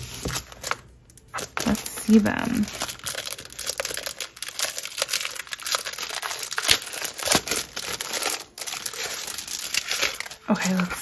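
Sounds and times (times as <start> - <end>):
plastic sleeve crinkling: 0.0 - 11.0.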